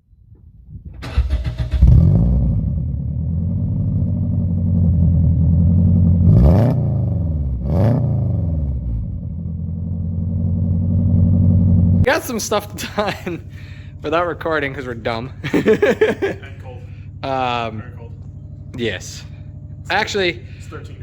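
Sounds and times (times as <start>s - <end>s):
car engine starting and revving: 0.9s - 21.0s.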